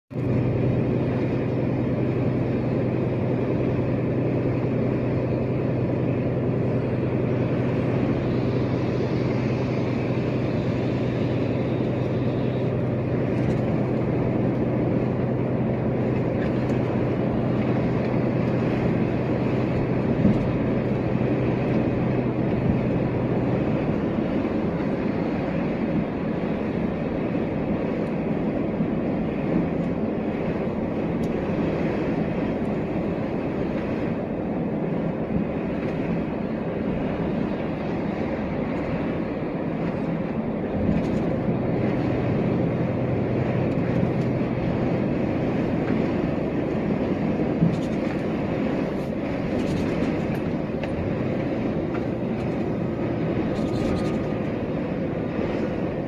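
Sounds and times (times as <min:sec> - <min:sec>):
truck engine drone: 0:00.1 - 0:56.0
tyre noise on wet road: 0:00.1 - 0:56.0.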